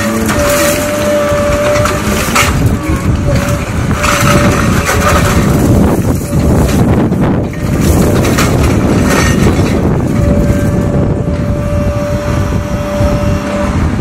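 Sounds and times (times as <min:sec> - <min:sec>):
masonry crunching and clattering: 0:00.0 - 0:13.6
diesel engine and hydraulics: 0:00.0 - 0:14.0
hydraulic whine: 0:00.0 - 0:14.0.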